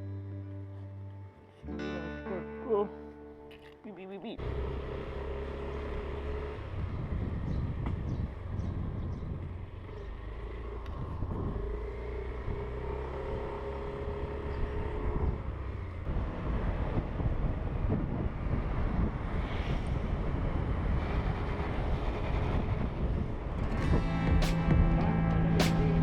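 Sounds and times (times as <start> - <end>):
low road and wind rumble: 2.8 - 26.0.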